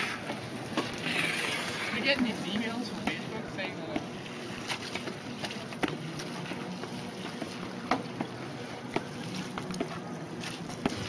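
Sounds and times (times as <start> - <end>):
steady arena hum: 0.0 - 11.0.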